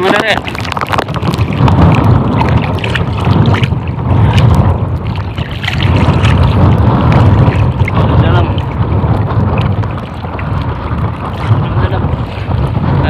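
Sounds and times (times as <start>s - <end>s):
water splashes and knocks: 0.0s - 13.0s
wind buffeting microphone: 0.0s - 13.0s.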